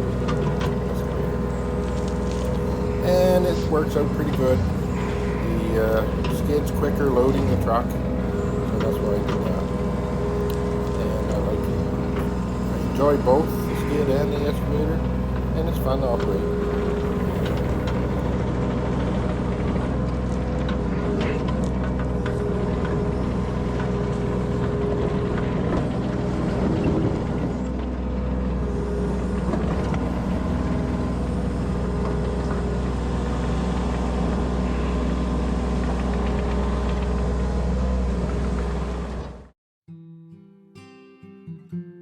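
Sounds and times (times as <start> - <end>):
diesel engine running: 0.0 - 39.5.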